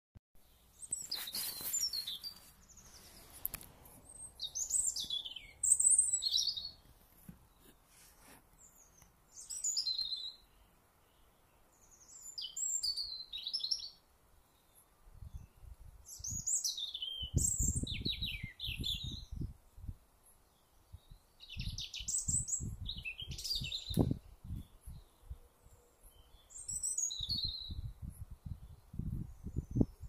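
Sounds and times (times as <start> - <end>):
songbird singing: 0.4 - 30.0.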